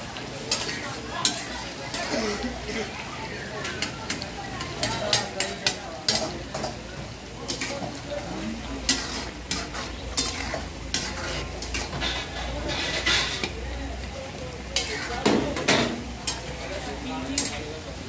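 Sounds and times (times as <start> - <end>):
food sizzling: 0.0 - 18.0
metal ladles scraping woks: 0.0 - 18.0.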